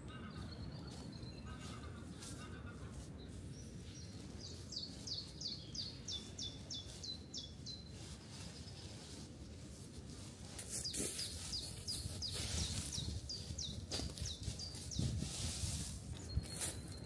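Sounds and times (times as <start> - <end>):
woodland ambience rush: 0.0 - 17.0.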